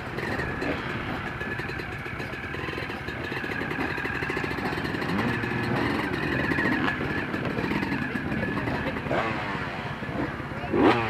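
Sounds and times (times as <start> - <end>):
motorcycle engine revving: 0.0 - 11.0
motorcycle engines idling: 0.0 - 11.0.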